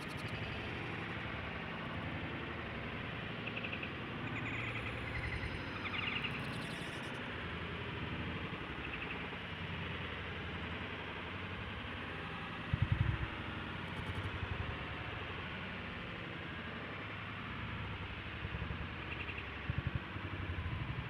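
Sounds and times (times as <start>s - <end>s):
outdoor hiss-like rumble: 0.0s - 21.0s.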